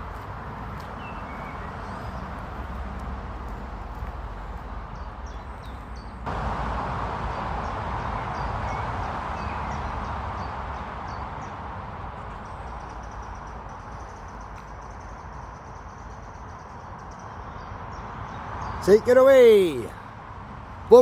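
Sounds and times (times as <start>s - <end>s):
outdoor rushing noise: 0.0s - 21.0s.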